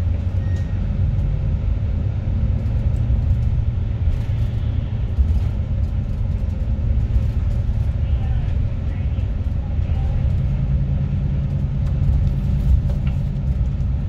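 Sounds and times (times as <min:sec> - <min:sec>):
bus engine and tyres rumbling: 0:00.0 - 0:14.0.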